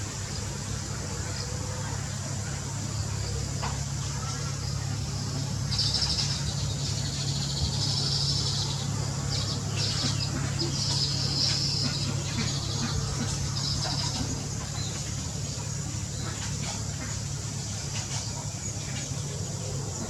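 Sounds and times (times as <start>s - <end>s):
steady low hum: 0.0s - 20.0s
small birds calling: 0.2s - 20.0s.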